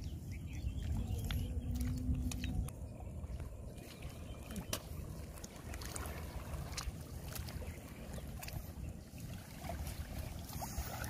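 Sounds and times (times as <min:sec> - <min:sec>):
faint clicks on wet mud: 0:00.0 - 0:11.0
river water: 0:00.0 - 0:11.0
wind on microphone: 0:00.0 - 0:11.0.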